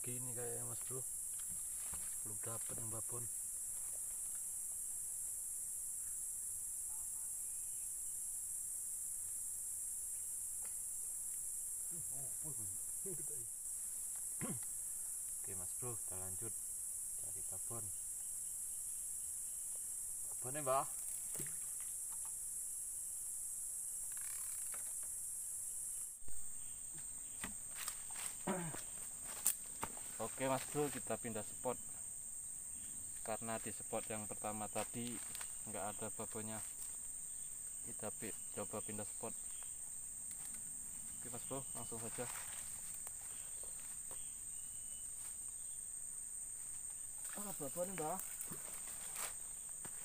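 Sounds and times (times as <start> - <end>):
insects chorus: 0.0 - 50.0.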